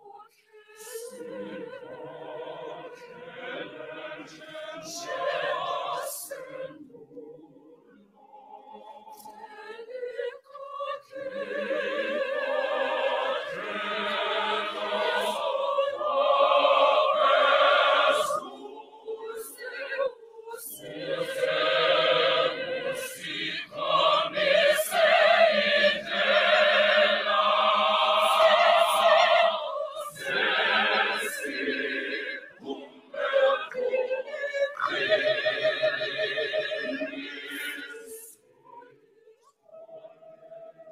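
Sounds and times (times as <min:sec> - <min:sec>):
choir singing in parts: 0:00.0 - 0:40.9.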